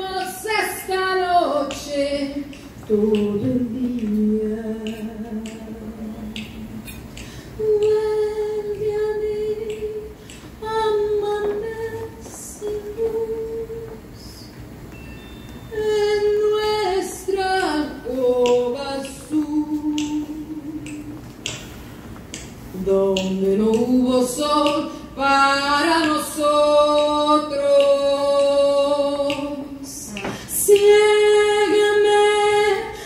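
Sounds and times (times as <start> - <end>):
woman singing: 0.0 - 14.6, 15.7 - 21.6, 22.7 - 33.0.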